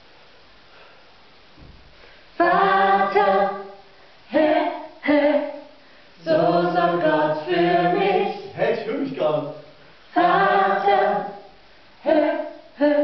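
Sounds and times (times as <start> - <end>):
vocal ensemble singing a cappella: 2.4 - 13.0.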